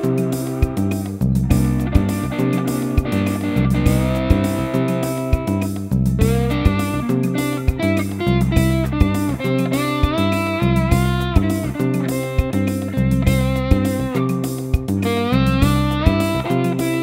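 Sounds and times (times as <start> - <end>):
bass and rhythm backing: 0.0 - 17.0
slide guitar melody: 0.0 - 17.0.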